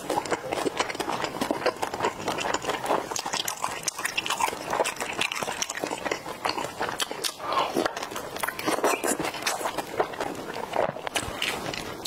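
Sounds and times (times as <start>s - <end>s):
wet chewing mouth sounds: 0.0s - 12.0s.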